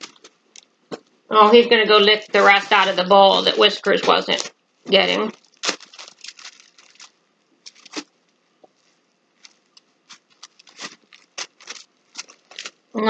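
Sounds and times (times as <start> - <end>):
plastic bag crinkling: 0.0 - 0.8, 1.6 - 13.0.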